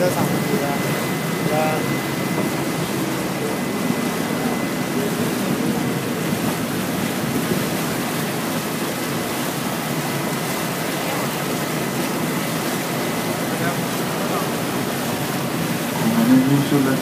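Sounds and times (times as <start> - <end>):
boat engine noise: 0.0 - 17.0
water wash: 0.0 - 17.0.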